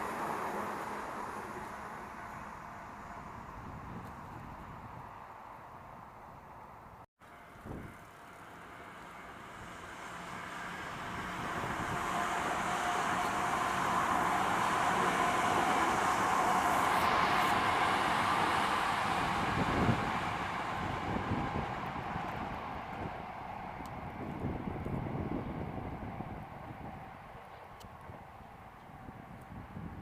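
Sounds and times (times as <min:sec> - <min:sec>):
electric train passing with whine: 0:00.0 - 0:30.0.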